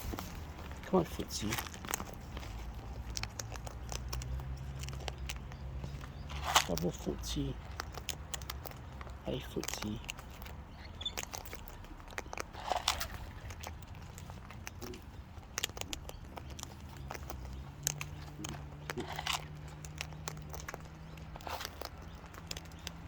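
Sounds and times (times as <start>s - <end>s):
bird beak cracking seed: 1.4s - 23.0s.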